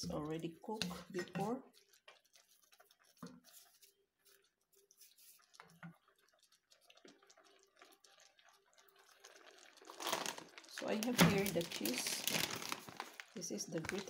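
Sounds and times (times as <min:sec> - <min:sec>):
sauce simmering with pops: 0:00.0 - 0:14.0.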